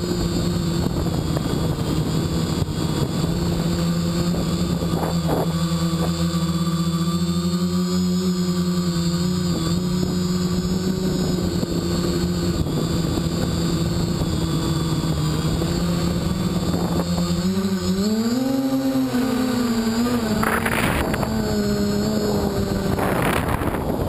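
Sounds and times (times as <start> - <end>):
quadcopter motors humming: 0.0 - 24.0.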